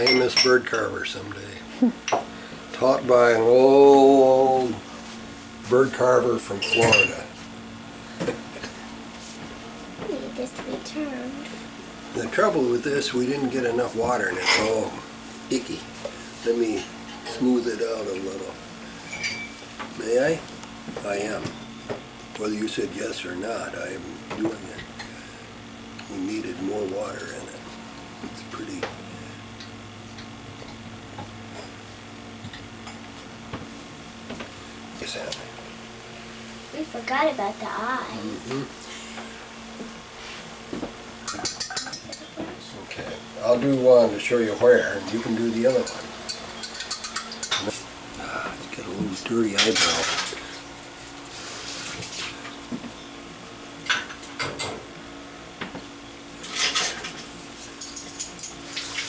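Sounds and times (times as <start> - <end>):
electrical hum: 0.0 - 59.0.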